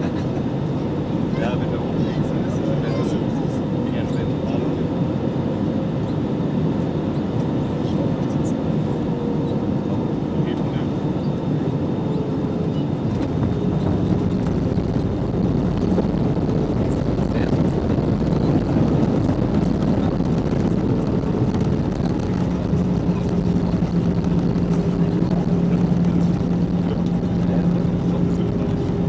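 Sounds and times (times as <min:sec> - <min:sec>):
jet engines humming in cabin: 0:00.0 - 0:29.0.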